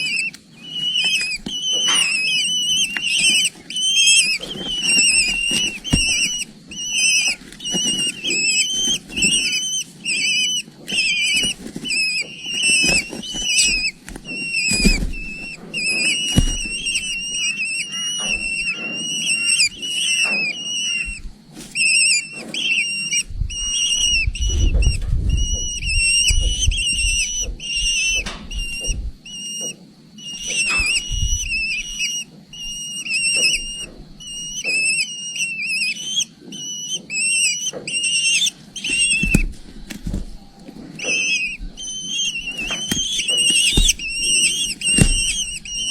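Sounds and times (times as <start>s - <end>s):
eagle chicks peeping: 0.0s - 45.9s.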